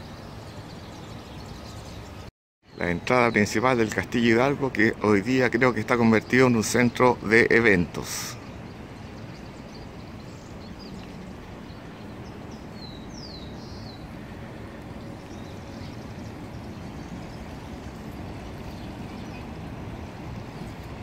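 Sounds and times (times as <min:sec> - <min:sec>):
bird chirping: 0:00.0 - 0:20.9
distant city traffic hum: 0:00.0 - 0:21.0.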